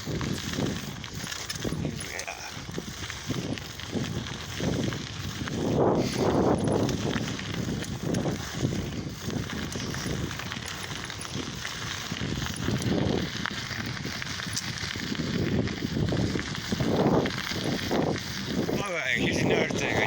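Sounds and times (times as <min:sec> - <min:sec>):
bicycle riding rumble: 0:00.0 - 0:20.0.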